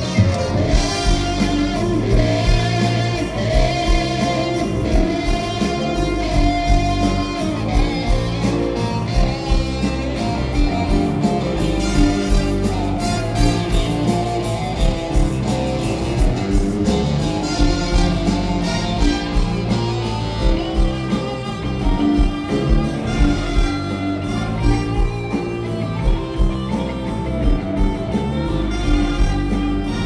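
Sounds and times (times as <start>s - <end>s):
blues band playing: 0.0s - 30.0s
horn section: 0.0s - 30.0s.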